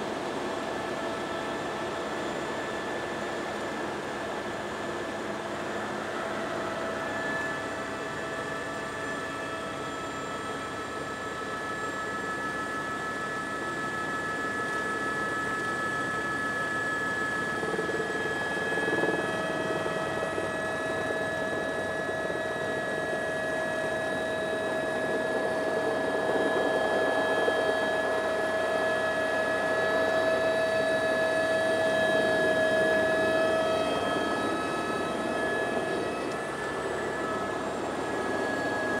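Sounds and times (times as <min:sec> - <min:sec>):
helicopter engine and rotors: 0:00.0 - 0:39.0
helicopter turbine whine: 0:00.0 - 0:39.0.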